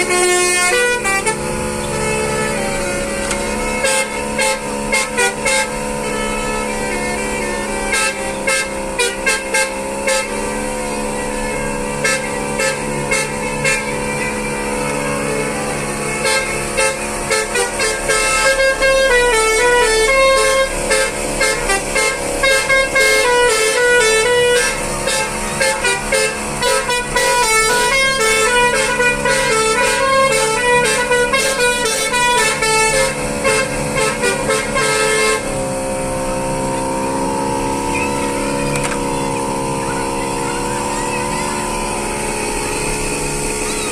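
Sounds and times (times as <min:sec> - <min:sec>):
air horn playing a fast tune: 0:00.0 - 0:43.9
steady chord-like horn drone: 0:00.0 - 0:43.9.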